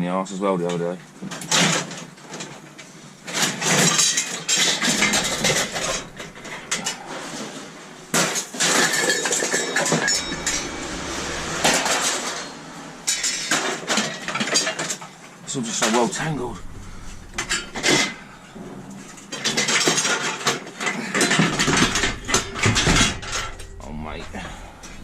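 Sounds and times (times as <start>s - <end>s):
scrap metal clanking: 3.2s - 15.1s, 15.8s - 25.0s.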